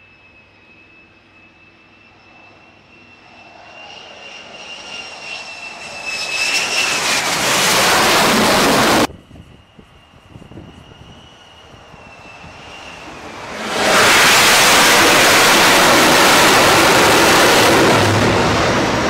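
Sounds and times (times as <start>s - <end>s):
jet engine whine and rush: 0.0s - 19.0s.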